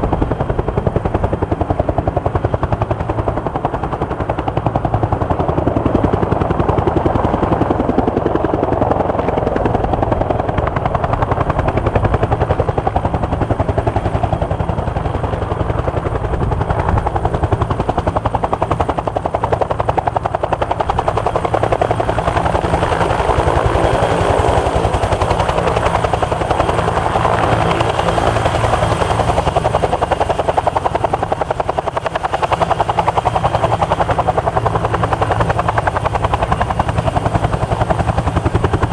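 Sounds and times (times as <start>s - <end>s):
helicopter rotor beating: 0.0s - 38.9s.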